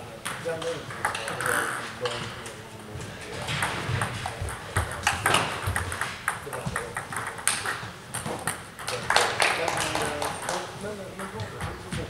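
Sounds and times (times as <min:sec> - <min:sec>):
table tennis balls clicking: 0:00.2 - 0:02.2, 0:03.4 - 0:12.0.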